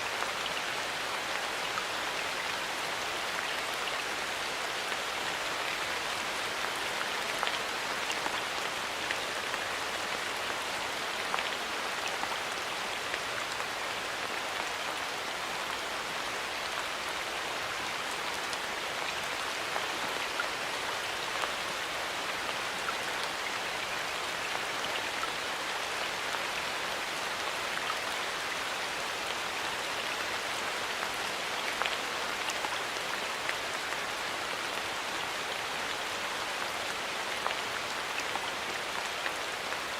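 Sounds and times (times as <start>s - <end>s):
light rain hiss: 0.0s - 39.9s.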